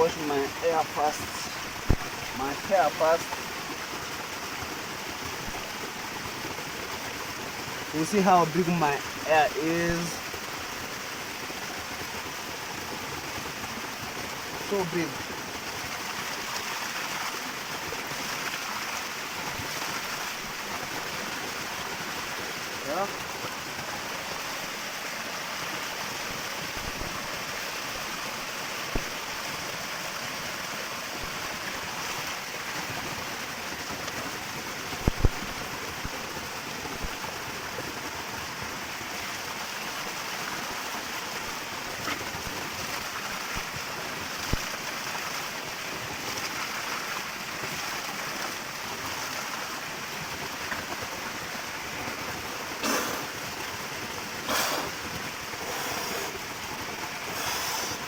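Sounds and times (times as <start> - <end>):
small waterfall running: 0.0 - 58.0.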